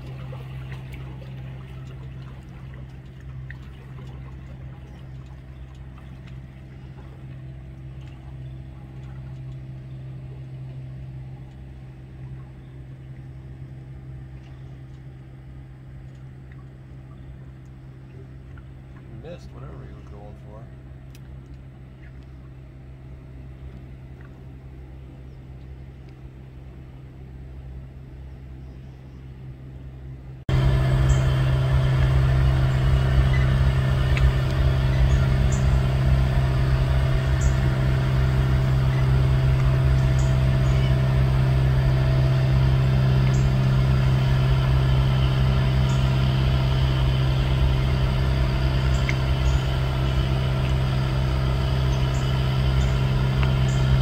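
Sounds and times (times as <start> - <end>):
boat motor idling: 0.0 - 54.0.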